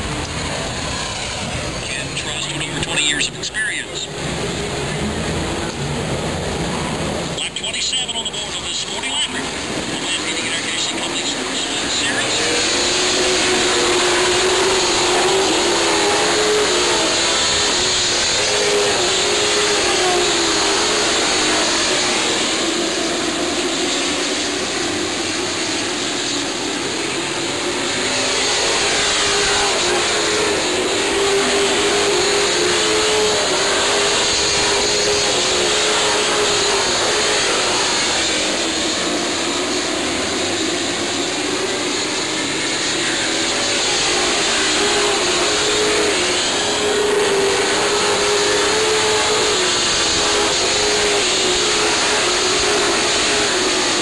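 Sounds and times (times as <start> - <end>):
stock car engines racing: 0.0 - 54.0.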